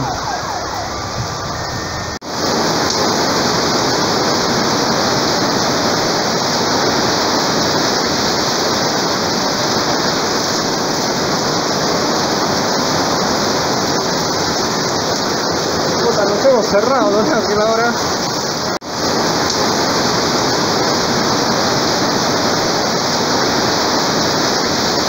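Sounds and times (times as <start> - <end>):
torrential rain on plants: 2.2 - 25.0.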